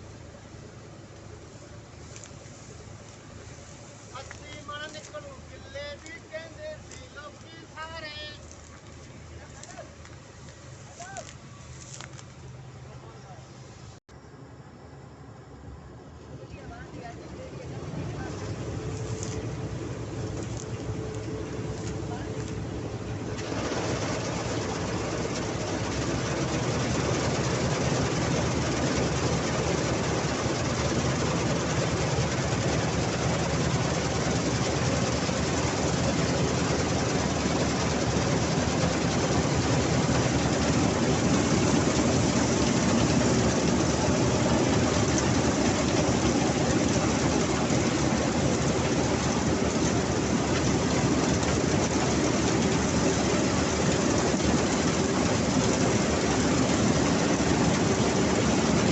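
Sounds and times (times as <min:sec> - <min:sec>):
harvesting machinery noise: 0:00.0 - 0:58.9
tractor diesel engine running: 0:00.0 - 0:58.9.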